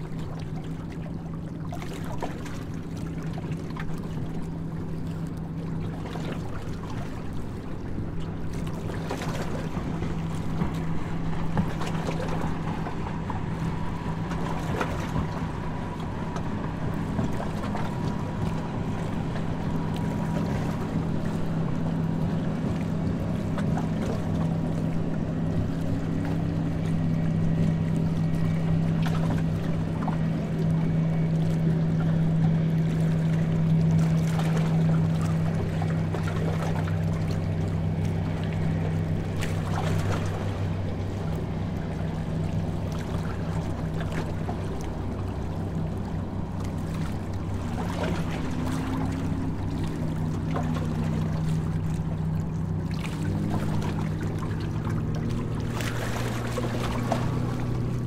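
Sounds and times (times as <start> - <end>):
boat engine drone: 0.0 - 58.0
boat wash noise: 0.0 - 58.0.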